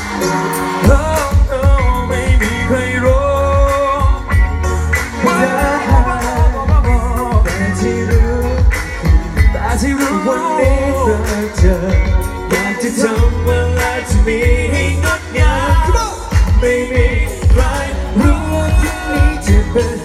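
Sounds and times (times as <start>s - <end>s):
heavy bass beat and drum hits: 0.0s - 20.0s
live pop song over sound system: 0.0s - 20.0s.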